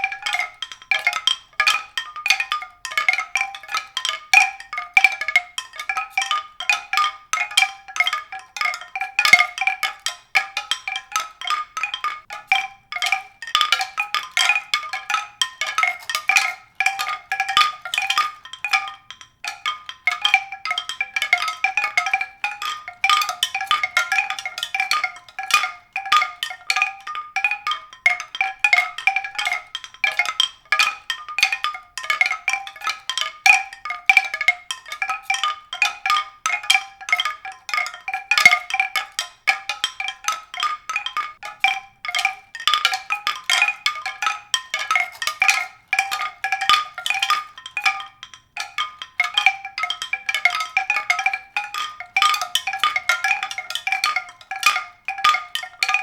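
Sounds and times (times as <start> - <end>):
high-pitched struck percussion notes: 0.0 - 56.0.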